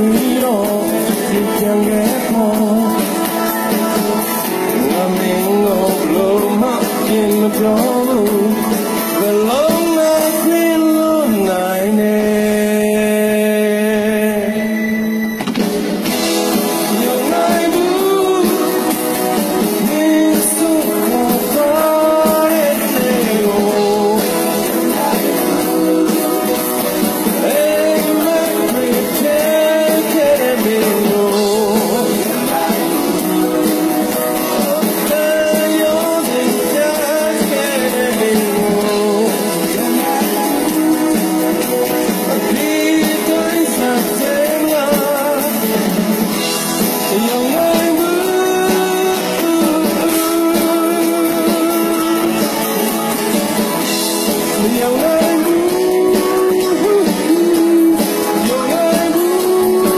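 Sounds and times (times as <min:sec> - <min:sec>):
live rock band with singer: 0:00.0 - 0:59.9.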